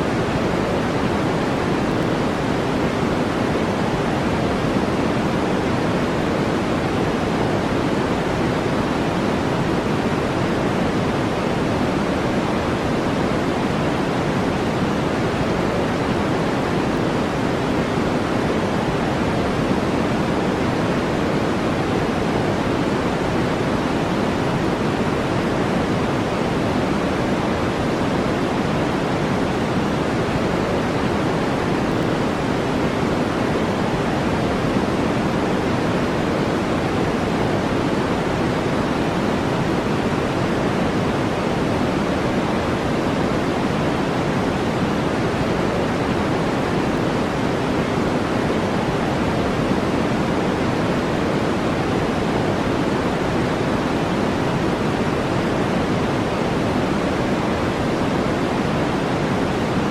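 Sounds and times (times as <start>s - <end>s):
steady brown noise: 0.0s - 59.9s.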